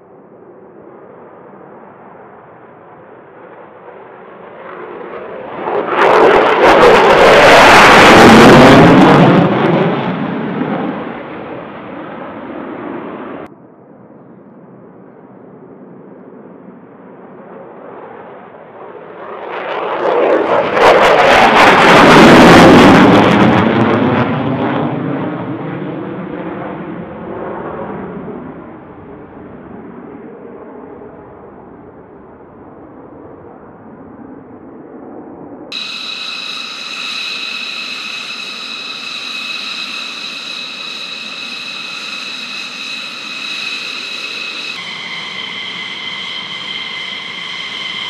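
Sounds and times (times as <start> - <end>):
jet engines taking off: 0.0 - 14.0, 14.7 - 29.6, 35.7 - 48.0.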